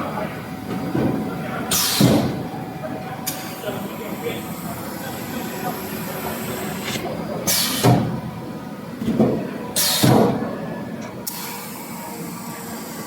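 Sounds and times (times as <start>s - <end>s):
factory machinery running: 0.0s - 13.0s.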